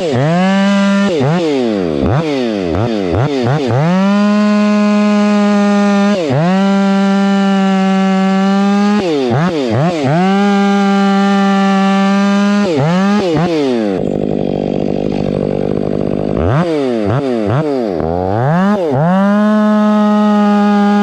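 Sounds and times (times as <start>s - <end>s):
chain cutting into log: 0.0s - 21.0s
chainsaw revving: 0.0s - 21.0s.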